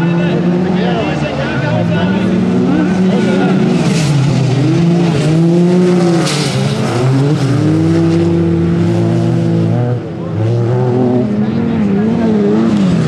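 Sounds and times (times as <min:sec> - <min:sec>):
racing buggy engines revving: 0:00.0 - 0:13.0.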